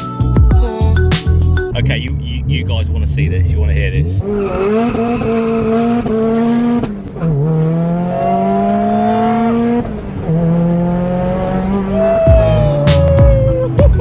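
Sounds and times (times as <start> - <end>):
car engine accelerating hard: 1.9 - 14.0.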